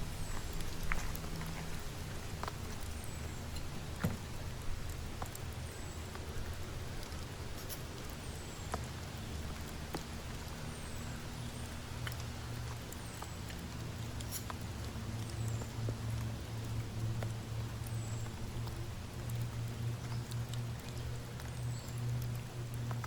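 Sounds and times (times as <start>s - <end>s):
low hum: 0.0s - 23.0s
rain falling: 0.0s - 23.0s.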